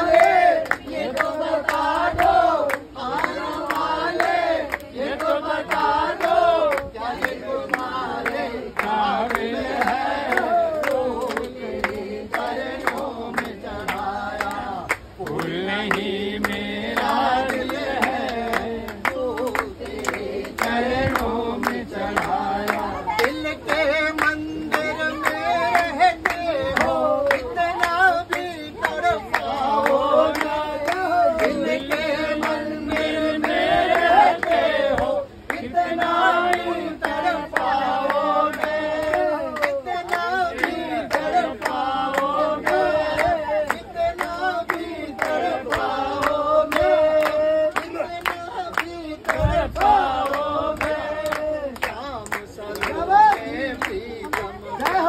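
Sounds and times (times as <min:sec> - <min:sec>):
group singing devotional song: 0:00.0 - 0:55.0
rhythmic hand-clapping: 0:00.0 - 0:55.0.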